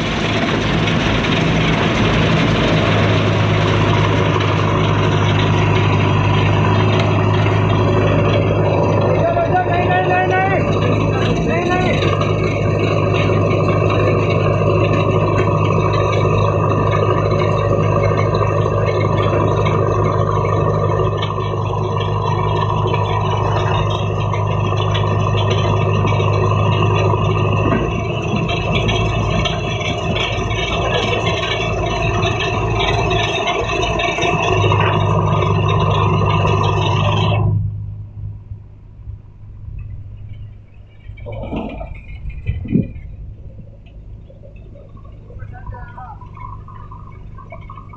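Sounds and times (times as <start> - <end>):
truck engine running under load: 0.0 - 47.9.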